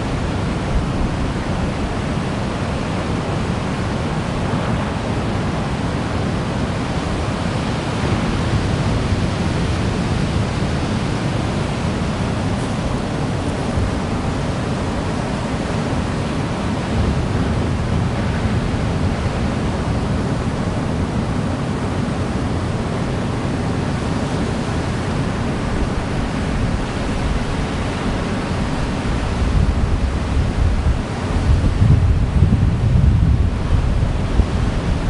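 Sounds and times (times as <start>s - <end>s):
ocean surf breaking on beach: 0.0s - 35.0s.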